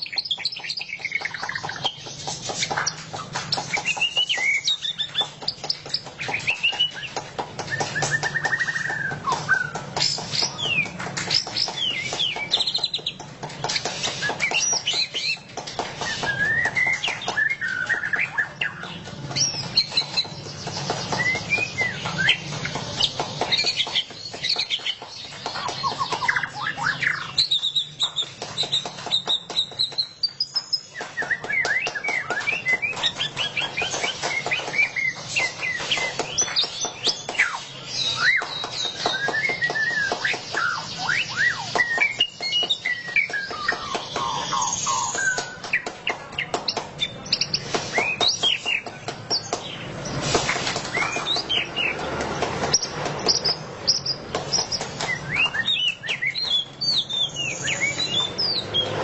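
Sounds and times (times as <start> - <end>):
songbird whistling and trilling: 0.0 - 49.8, 50.8 - 52.0, 52.7 - 59.0.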